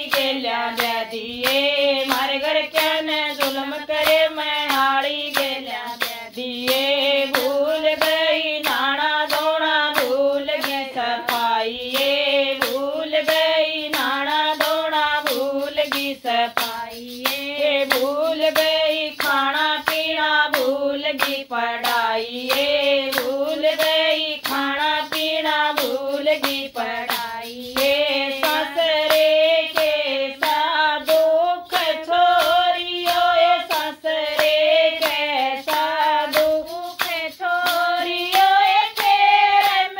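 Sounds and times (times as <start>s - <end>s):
hand claps: 0.0s - 39.9s
woman singing folk song: 0.0s - 39.9s.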